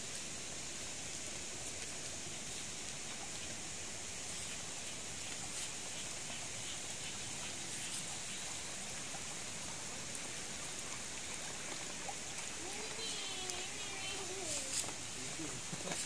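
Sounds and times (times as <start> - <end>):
light drizzle hissing: 0.0 - 16.0
faint drips: 1.2 - 16.0.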